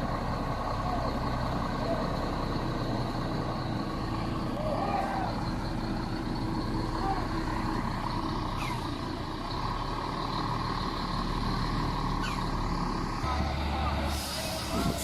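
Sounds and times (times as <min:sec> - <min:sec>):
heavy truck engine running: 0:00.0 - 0:15.0
road traffic: 0:00.0 - 0:15.0.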